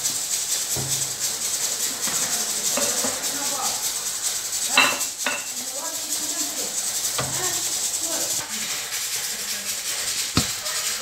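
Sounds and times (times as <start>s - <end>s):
background music with shaker: 0.0s - 11.0s.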